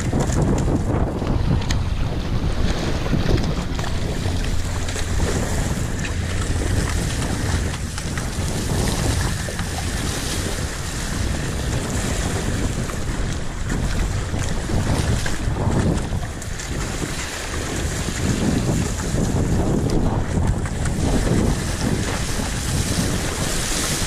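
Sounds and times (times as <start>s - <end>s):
paddle strokes through water: 0.0s - 24.0s
water rushing along a boat hull: 0.0s - 24.0s
wind buffeting the microphone: 0.0s - 24.0s.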